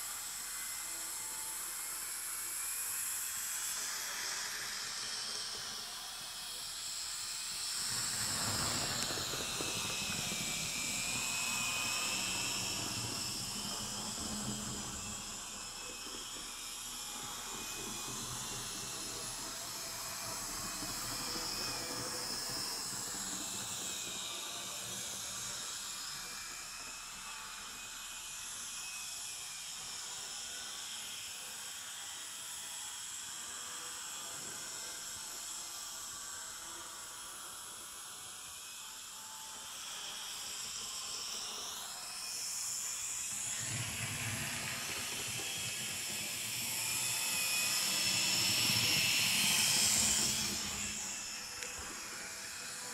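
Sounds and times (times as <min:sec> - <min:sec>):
model train motor whine: 0:00.0 - 0:52.9.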